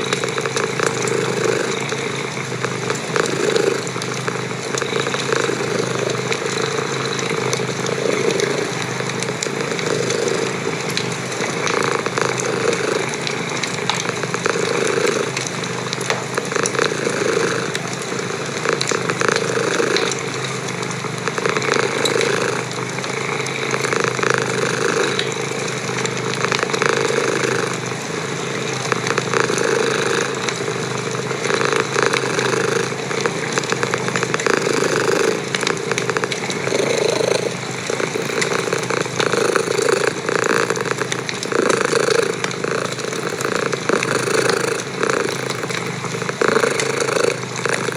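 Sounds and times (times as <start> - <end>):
cat purring: 0.0 - 47.9
fireplace fire crackling: 0.0 - 47.9.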